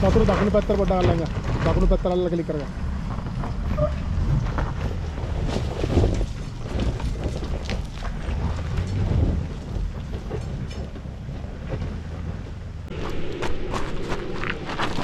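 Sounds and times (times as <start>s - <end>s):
off-road vehicle engine running low: 0.0s - 15.0s.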